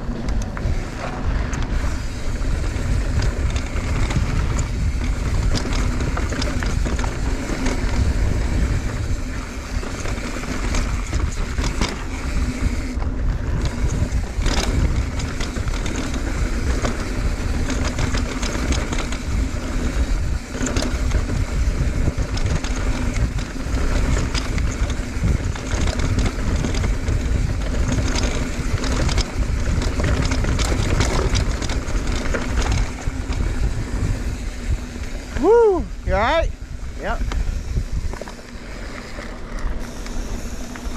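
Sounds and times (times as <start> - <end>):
bike rattling clicks: 0.0 - 40.9
bike tyre noise: 0.0 - 40.9
wind buffeting microphone: 0.0 - 40.9.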